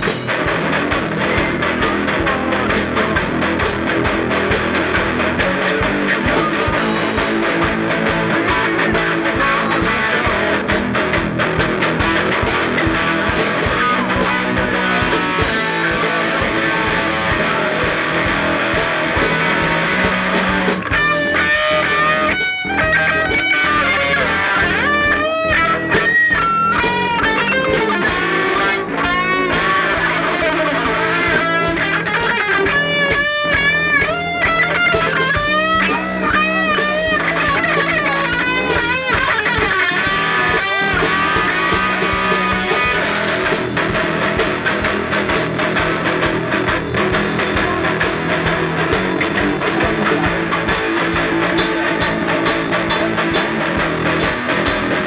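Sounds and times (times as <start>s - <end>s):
lead guitar bending notes: 0.0s - 55.0s
live rock band playing: 0.0s - 55.0s.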